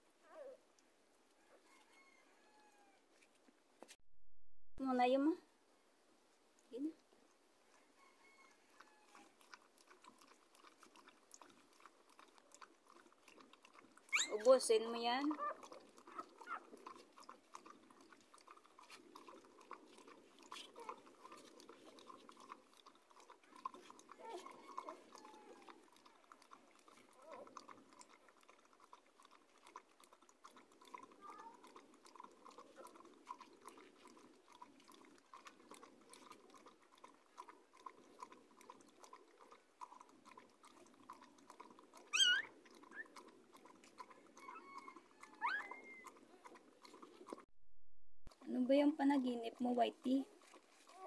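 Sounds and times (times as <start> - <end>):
dog lapping milk: 6.9 - 47.5, 48.3 - 51.0.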